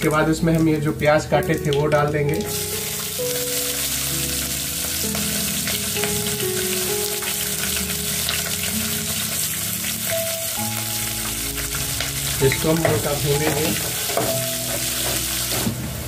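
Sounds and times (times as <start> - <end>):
background music of held notes: 0.0 - 16.0
onions sizzling in hot oil: 0.0 - 16.0.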